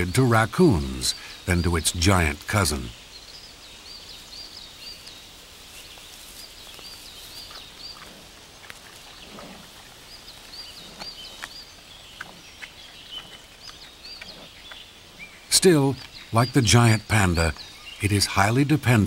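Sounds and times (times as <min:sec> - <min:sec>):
small bird singing: 0:00.0 - 0:19.0
steady hiss: 0:00.0 - 0:19.0.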